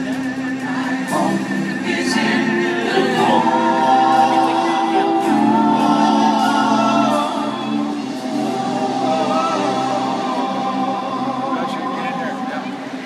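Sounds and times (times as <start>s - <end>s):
band playing worship music: 0.0s - 13.0s
singers holding notes in harmony: 0.0s - 13.0s.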